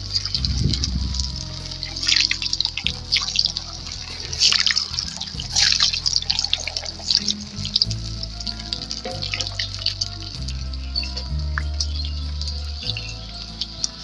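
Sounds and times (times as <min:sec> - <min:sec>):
oil sizzling and crackling: 0:00.0 - 0:14.0
soft background music: 0:00.0 - 0:14.0.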